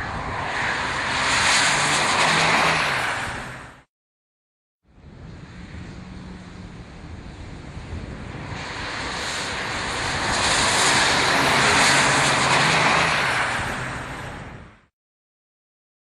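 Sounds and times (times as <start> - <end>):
vehicle passing by: 0.0 - 3.9, 5.0 - 14.9.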